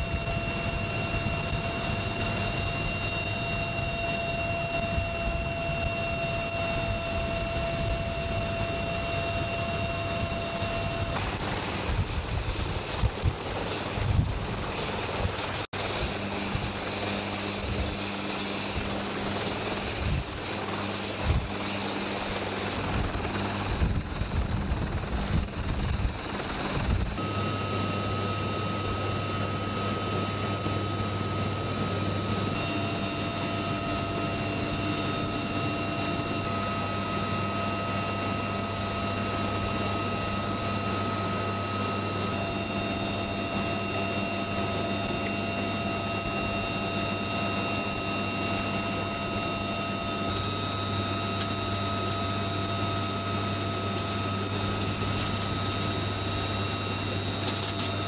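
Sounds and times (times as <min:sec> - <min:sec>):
helicopter engines and rotor: 0:00.0 - 0:58.0.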